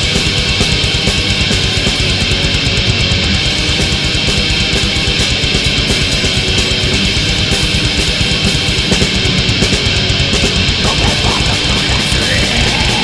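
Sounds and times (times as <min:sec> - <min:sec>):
bass: 0:00.0 - 0:13.0
distorted electric guitars: 0:00.0 - 0:13.0
rapid drumming: 0:00.0 - 0:13.0.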